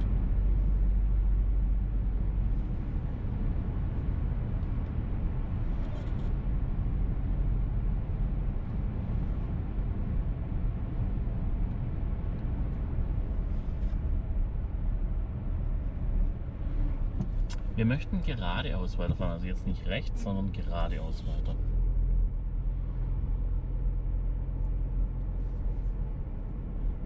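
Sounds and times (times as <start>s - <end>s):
car interior road and engine rumble: 0.0s - 27.0s.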